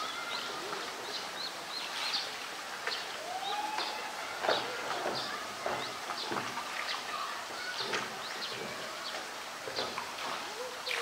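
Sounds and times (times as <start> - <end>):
faint outdoor hiss: 0.0 - 11.0
small birds chirping: 0.0 - 11.0.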